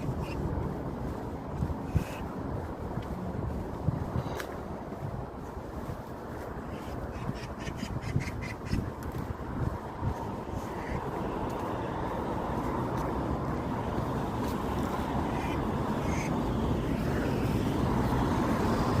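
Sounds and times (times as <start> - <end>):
low rumbling vehicle noise: 0.0 - 19.0.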